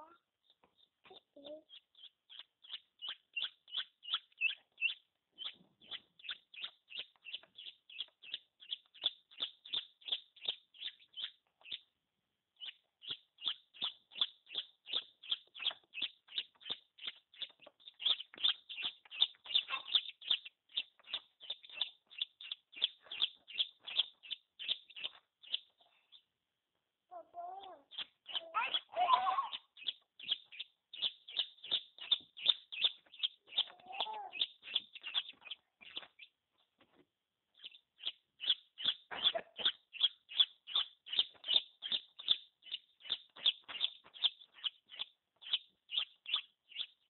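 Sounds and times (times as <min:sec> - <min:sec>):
chick peeping: 0:00.7 - 0:11.8, 0:12.6 - 0:25.7, 0:27.6 - 0:36.3, 0:37.6 - 0:46.9.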